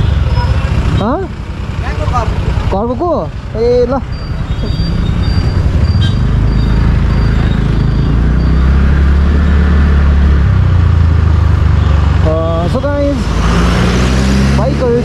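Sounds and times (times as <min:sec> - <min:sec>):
motorcycle engine running: 0:00.0 - 0:13.2
road and traffic noise: 0:00.0 - 0:15.0.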